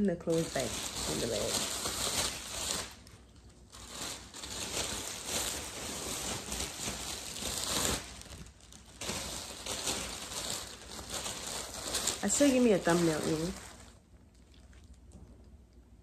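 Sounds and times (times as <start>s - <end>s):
clothes and bag rustling: 0.3s - 3.0s, 3.7s - 14.0s.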